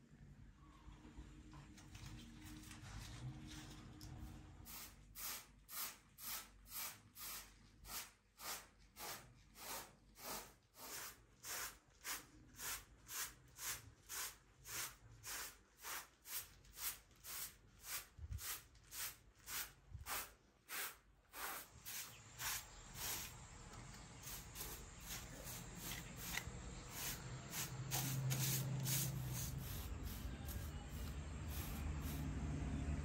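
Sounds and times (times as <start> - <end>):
hand broom sweeping floor: 4.7 - 23.4, 24.2 - 32.3.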